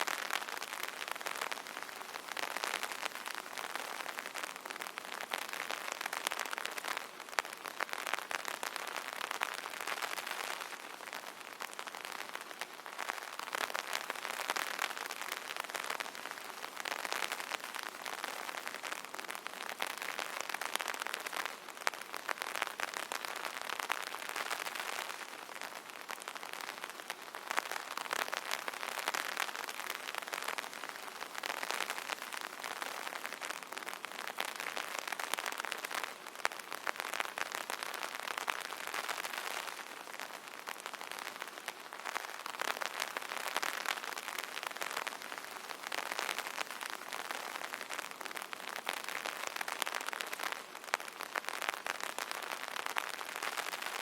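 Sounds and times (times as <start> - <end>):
rain pattering on an umbrella: 0.0 - 54.0.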